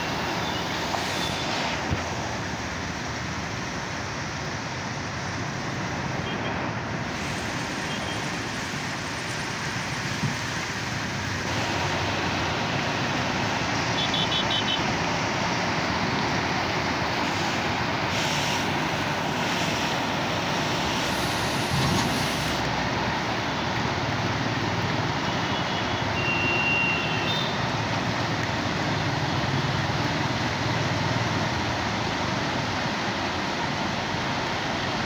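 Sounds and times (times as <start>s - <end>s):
heavy rain pouring: 0.0s - 26.3s, 26.9s - 35.0s.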